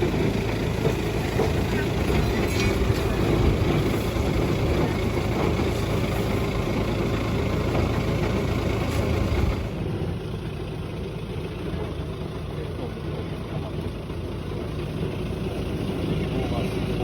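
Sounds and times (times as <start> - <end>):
jetting truck engine and pump: 0.0 - 17.0.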